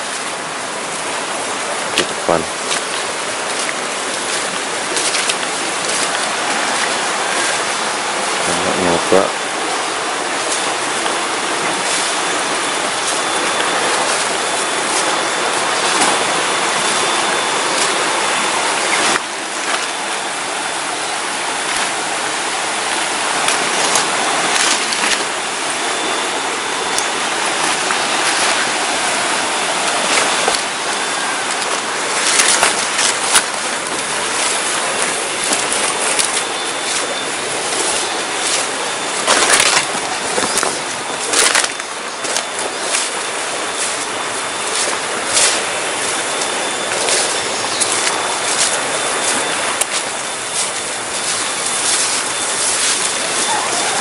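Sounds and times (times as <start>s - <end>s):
people pushing through undergrowth: 0.0s - 54.0s
river rushing: 0.0s - 54.0s.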